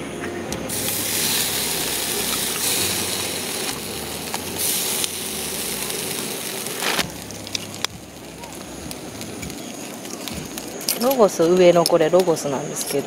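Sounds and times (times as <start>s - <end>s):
meat sizzling on a grill: 0.7s - 13.0s.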